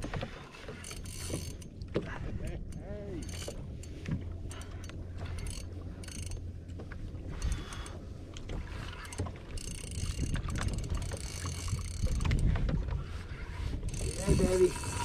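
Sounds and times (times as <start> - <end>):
rumble of wind and swell: 0.0 - 15.0
fishing reel clicking and whirring: 0.1 - 15.0.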